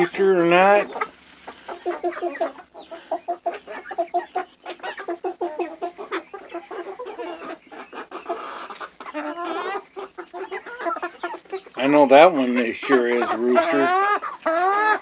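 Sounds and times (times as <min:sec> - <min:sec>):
chickens clucking: 0:00.0 - 0:15.0
chicken high call: 0:01.4 - 0:11.8, 0:12.4 - 0:15.0.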